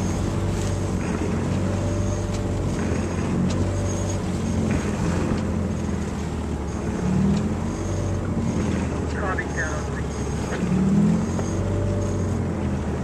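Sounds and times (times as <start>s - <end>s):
boat engine humming: 0.0s - 13.0s
water washing past hull: 0.0s - 13.0s.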